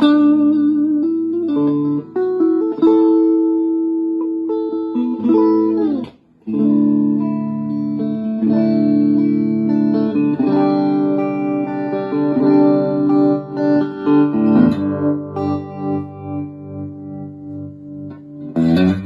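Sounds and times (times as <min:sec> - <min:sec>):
electric guitar ringing chords: 0:00.0 - 0:19.0.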